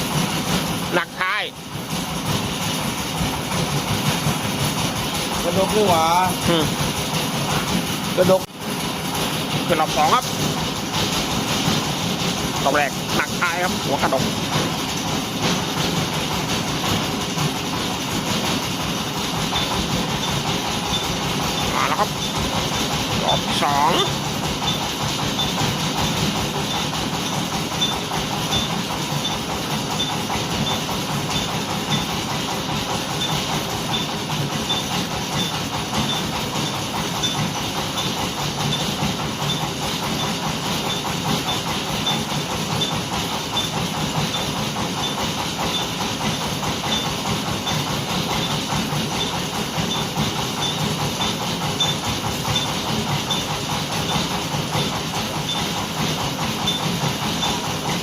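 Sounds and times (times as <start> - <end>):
engine running under load: 0.0 - 58.0.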